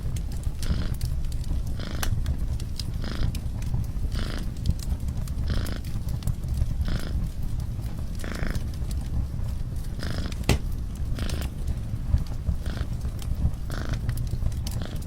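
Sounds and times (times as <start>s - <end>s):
wood fire crackling: 0.0s - 15.0s
cat purring: 0.5s - 15.0s.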